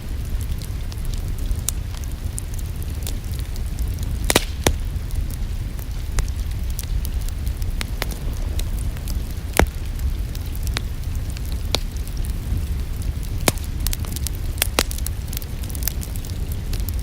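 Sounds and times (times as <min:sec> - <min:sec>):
low rumble: 0:00.0 - 0:16.9
rain falling: 0:00.0 - 0:17.0
wood fire crackling and popping: 0:00.0 - 0:17.0.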